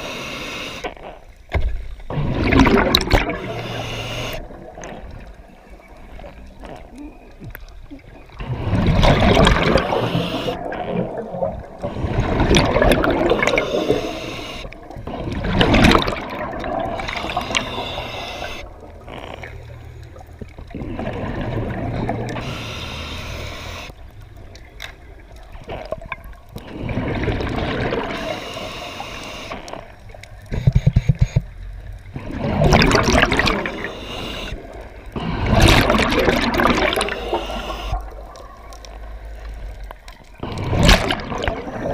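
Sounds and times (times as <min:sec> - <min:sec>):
water gurgling and sloshing: 0:00.0 - 0:41.9.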